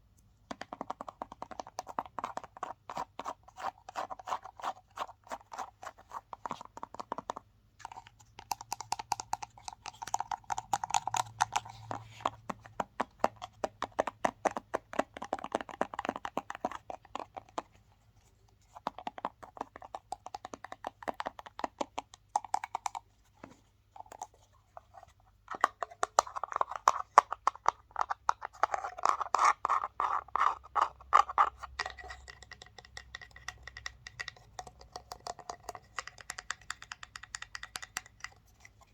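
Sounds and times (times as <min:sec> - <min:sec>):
fast scratching and tapping: 0:00.5 - 0:17.7, 0:18.7 - 0:38.9.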